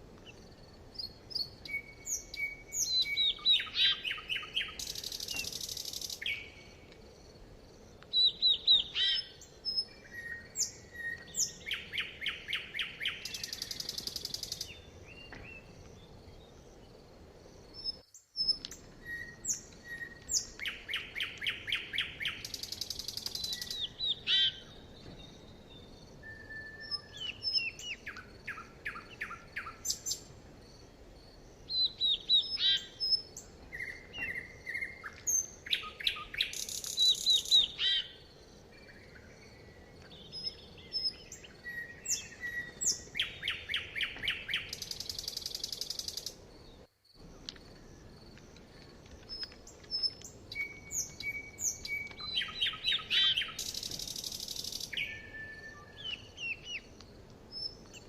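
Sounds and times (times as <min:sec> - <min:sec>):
faint steady background noise: 0:00.0 - 0:58.0
songbirds singing: 0:00.1 - 0:58.0.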